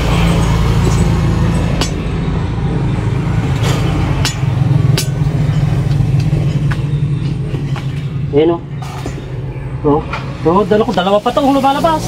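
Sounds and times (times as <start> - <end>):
low motor hum: 0.0 - 10.8.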